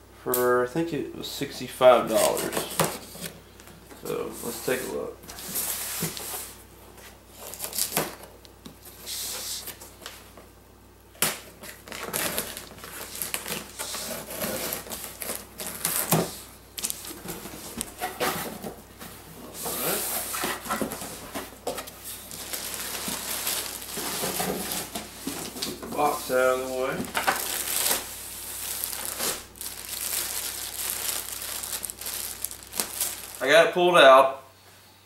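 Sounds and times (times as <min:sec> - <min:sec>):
paper packing rustling: 0:01.9 - 0:10.3, 0:11.4 - 0:33.5.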